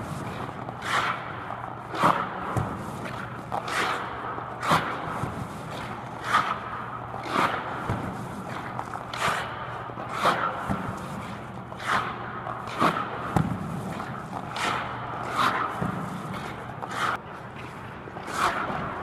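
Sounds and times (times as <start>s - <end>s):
skates scraping ice: 0.0s - 19.0s
steady low hum: 0.0s - 19.0s.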